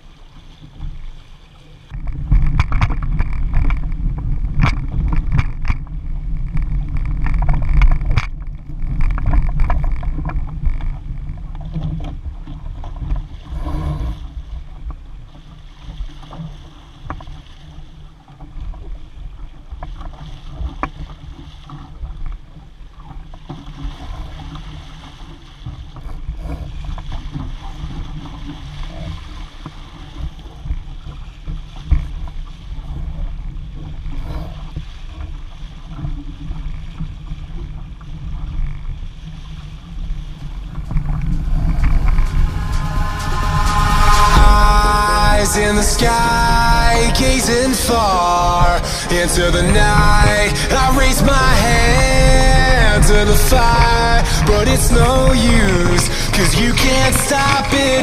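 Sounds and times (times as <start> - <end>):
water splashing against hull: 0.0 - 58.0
wind buffeting microphone: 1.9 - 23.2, 23.9 - 58.0.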